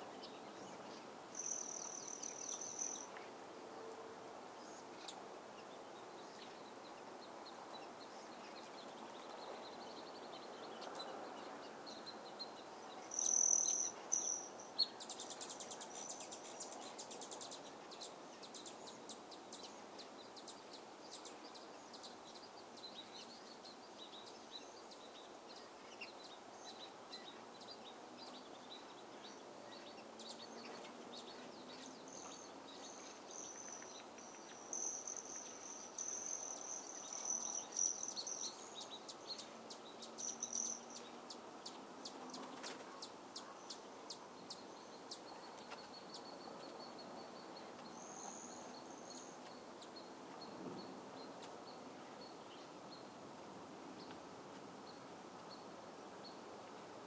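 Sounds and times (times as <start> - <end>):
birds chirping: 0.0 - 53.2
steady hiss: 0.0 - 57.0.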